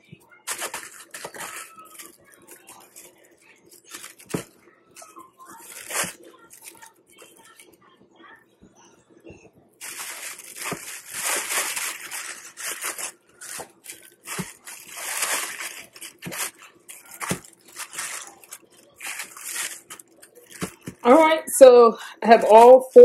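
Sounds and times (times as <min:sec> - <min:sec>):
plastic bag crinkling: 0:00.0 - 0:07.8, 0:09.8 - 0:21.2.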